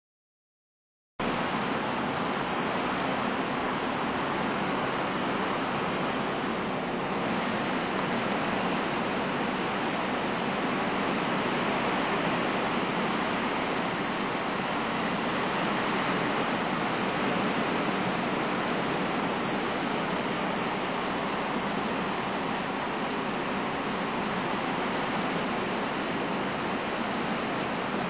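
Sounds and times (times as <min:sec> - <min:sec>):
water circulating in fish tank: 0:01.2 - 0:28.0.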